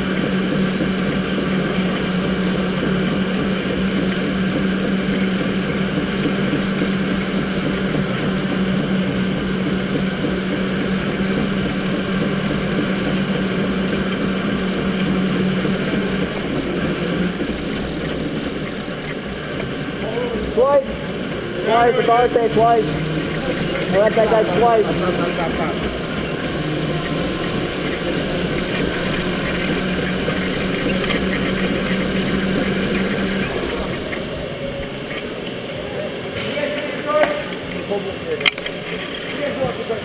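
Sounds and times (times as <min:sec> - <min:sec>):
electric motor hum: 0:00.0 - 0:40.0
kart rumbling on track: 0:00.0 - 0:40.0.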